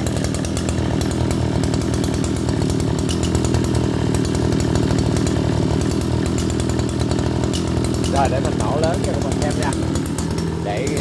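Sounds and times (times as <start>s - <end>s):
brush cutter engine idling: 0.0s - 11.0s.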